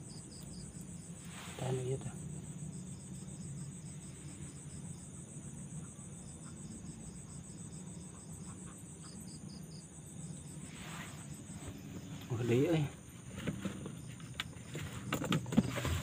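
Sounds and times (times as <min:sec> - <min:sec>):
insects trilling: 0:00.0 - 0:16.0
low steady hum: 0:00.0 - 0:16.0
lower pulsing insect call: 0:00.0 - 0:16.0.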